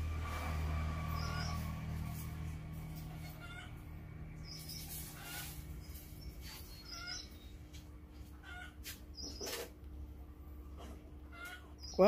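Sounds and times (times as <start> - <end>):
low steady hum: 0.0 - 12.0
birds chirping faintly: 0.2 - 12.0.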